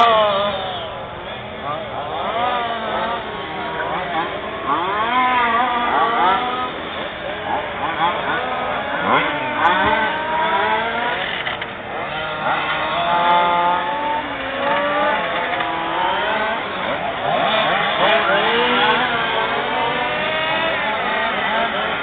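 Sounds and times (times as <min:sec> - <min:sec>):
model race car engines revving: 0:00.0 - 0:22.0.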